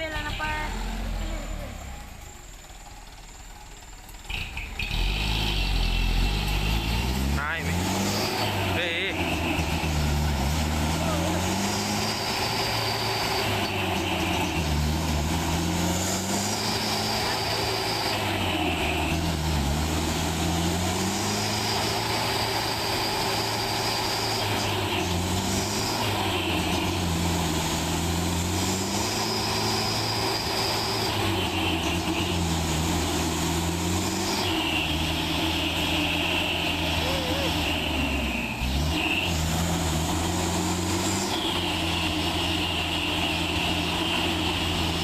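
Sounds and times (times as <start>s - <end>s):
truck diesel engine under load: 0.0s - 45.0s.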